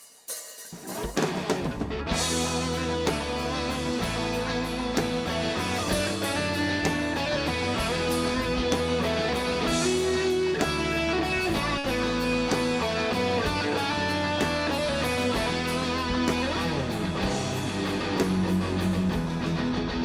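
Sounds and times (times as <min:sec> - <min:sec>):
guitars: 0:00.8 - 0:20.0
live rock band playing: 0:00.8 - 0:20.0.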